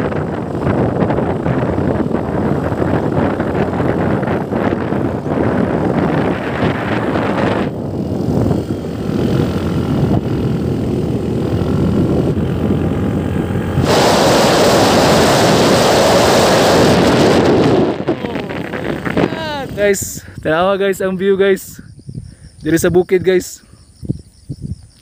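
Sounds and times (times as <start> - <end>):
motorcycle engine running: 0.0 - 20.2
wind rushing over microphone: 0.0 - 25.0.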